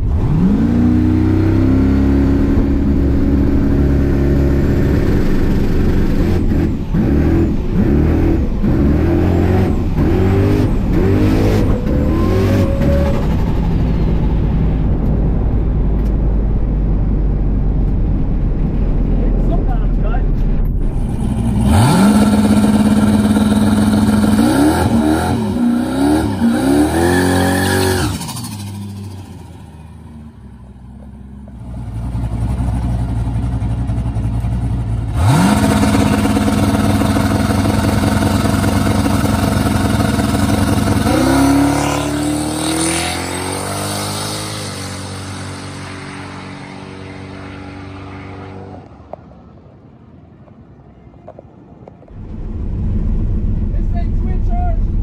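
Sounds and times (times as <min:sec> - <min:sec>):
drag car engine revving: 0:00.0 - 0:30.2, 0:31.6 - 0:48.9.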